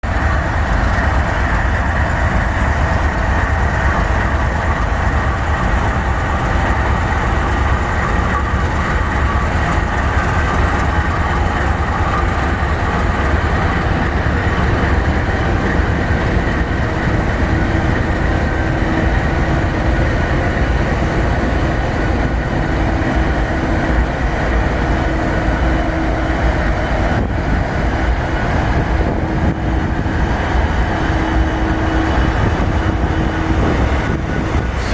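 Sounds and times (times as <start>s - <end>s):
diesel locomotives idling: 0.0s - 34.9s.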